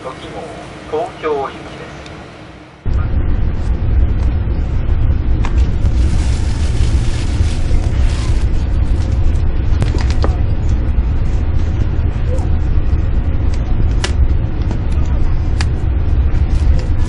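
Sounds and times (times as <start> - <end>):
train interior rumble: 0.0 - 17.0.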